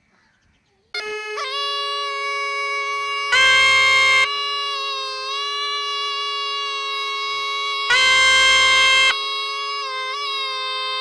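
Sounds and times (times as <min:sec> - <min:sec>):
double-reed shawm melody: 0:00.9 - 0:11.0
wind instrument drone: 0:01.0 - 0:11.0.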